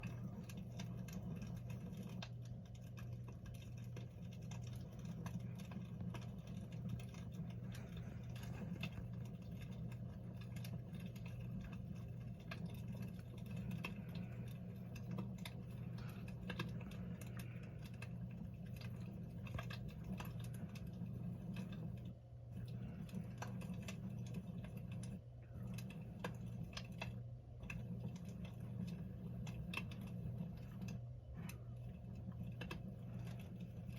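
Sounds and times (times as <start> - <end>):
constant low hum: 0.0 - 33.9
wood fire crackling: 0.0 - 33.9.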